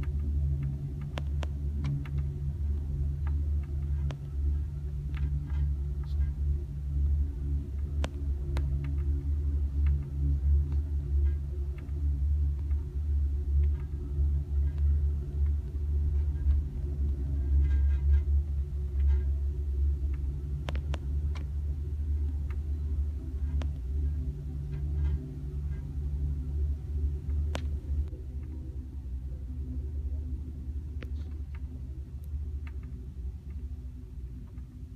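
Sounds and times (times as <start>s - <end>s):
faint clicks and ticks: 0.0s - 34.9s.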